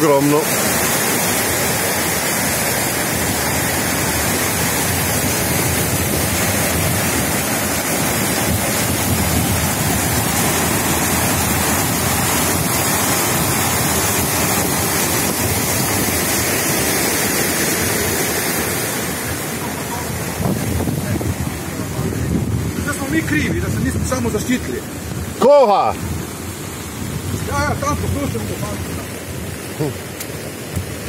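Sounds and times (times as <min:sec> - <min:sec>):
rushing flood water: 0:00.0 - 0:31.0.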